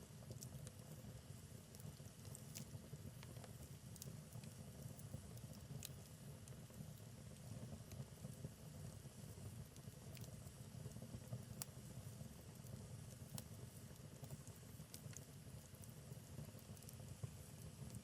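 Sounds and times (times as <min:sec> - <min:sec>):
low rumble of flame: 0:00.0 - 0:18.0
wood fire crackling: 0:00.0 - 0:18.0.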